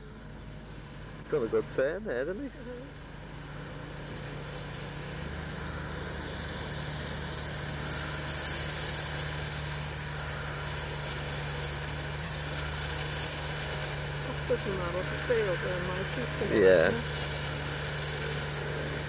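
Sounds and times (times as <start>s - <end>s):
small motorbike engine: 0.0s - 19.0s.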